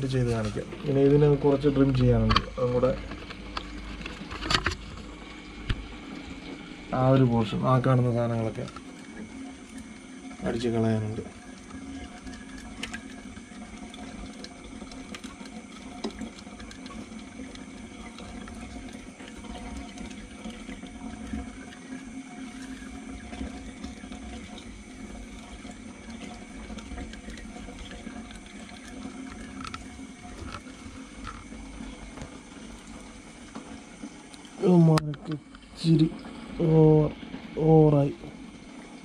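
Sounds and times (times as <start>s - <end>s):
aquarium water trickling: 0.0s - 39.0s.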